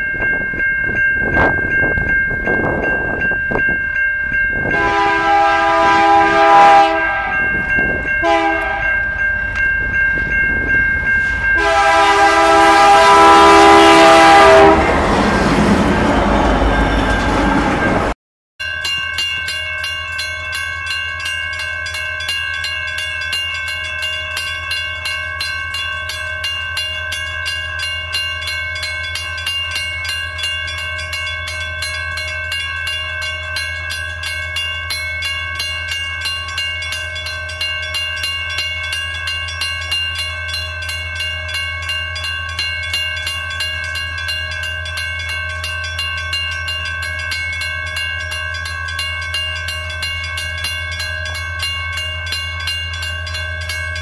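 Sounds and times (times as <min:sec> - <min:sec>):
crossing warning bell ringing: 0:00.0 - 0:54.0.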